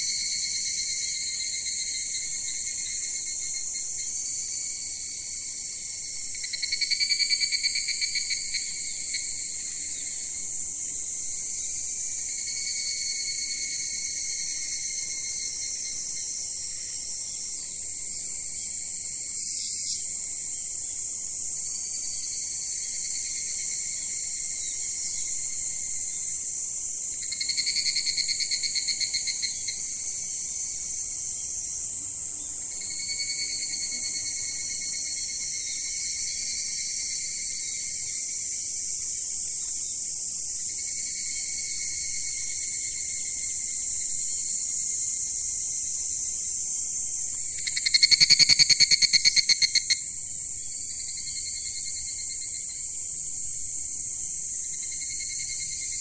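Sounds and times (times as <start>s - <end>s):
insects trilling: 0.0s - 56.0s
nearby insect pulsed trill: 0.0s - 56.0s.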